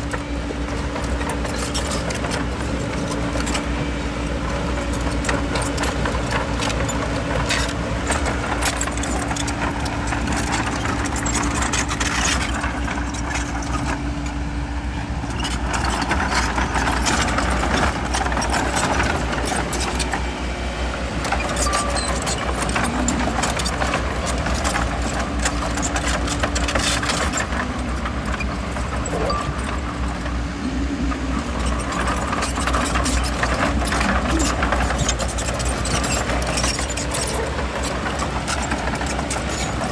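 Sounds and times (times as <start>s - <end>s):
bulldozer diesel engine droning: 0.0s - 39.9s
steel tracks clanking: 0.0s - 39.9s.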